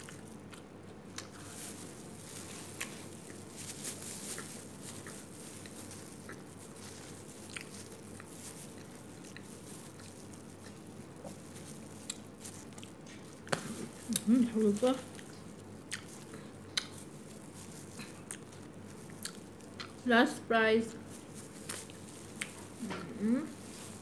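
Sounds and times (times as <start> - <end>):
person chewing: 0.0 - 20.0, 21.0 - 24.0.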